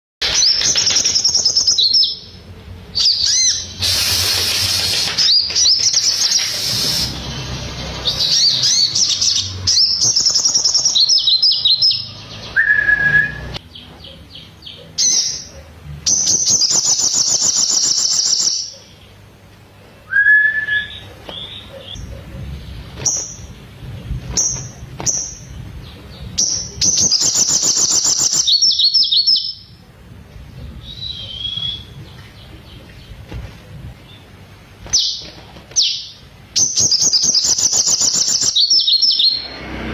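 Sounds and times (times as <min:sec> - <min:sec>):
bird song of rapid trills: 0:00.2 - 0:02.4, 0:03.0 - 0:19.2, 0:20.5 - 0:29.8, 0:30.8 - 0:33.2, 0:34.0 - 0:39.8.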